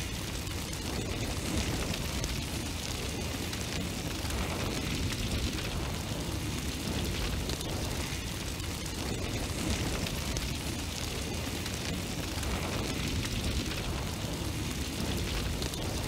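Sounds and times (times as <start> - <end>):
fire crackling and rushing: 0.0 - 16.0.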